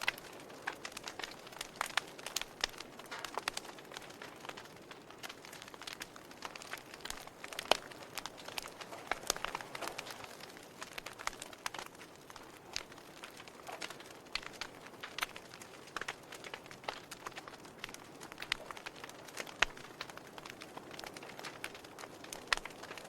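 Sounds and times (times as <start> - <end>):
soft fire hiss: 0.0 - 23.0
wood fire crackling and popping: 0.0 - 23.0.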